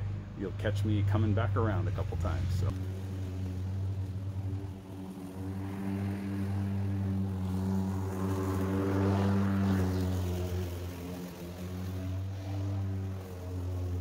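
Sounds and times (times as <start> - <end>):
lawn mower running: 0.0 - 14.0.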